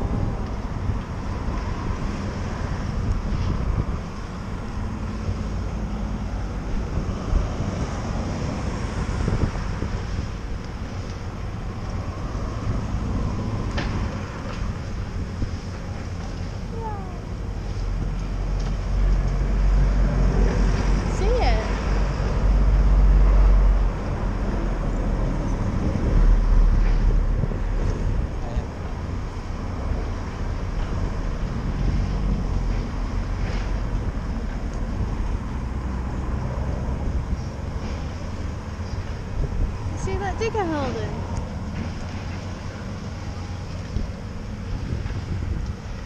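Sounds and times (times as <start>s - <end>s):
outdoor background rumble: 0.0s - 46.0s
wind buffeting microphone: 0.0s - 46.0s.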